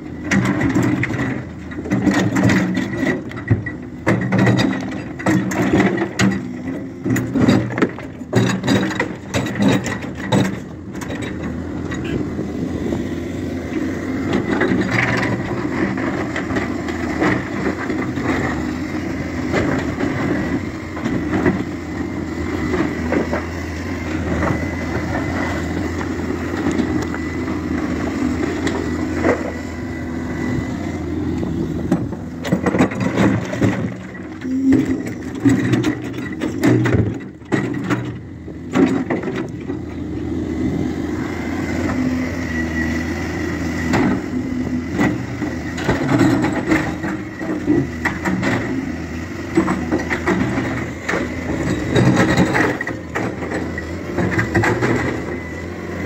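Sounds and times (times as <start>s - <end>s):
excavator diesel engine: 0.0s - 56.0s.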